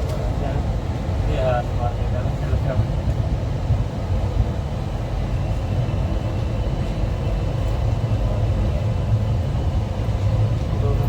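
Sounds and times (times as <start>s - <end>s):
train rumbling along track: 0.0s - 11.0s.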